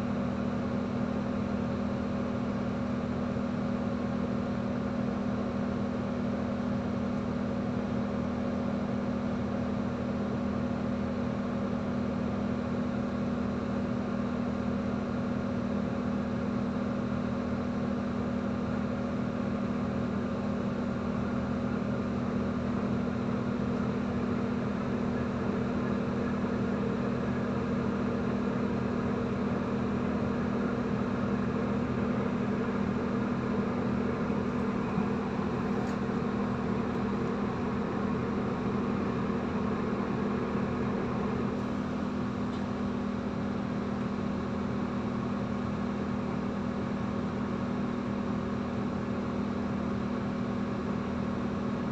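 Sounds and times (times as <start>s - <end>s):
bus engine idling: 0.0s - 51.9s.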